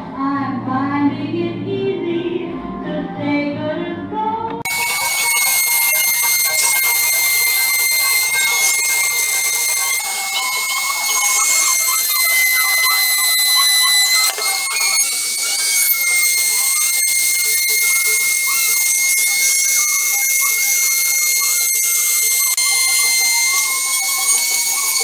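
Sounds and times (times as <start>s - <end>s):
bit grinding plastic: 4.7s - 25.0s
rotary tool high-pitched whine: 4.7s - 25.0s.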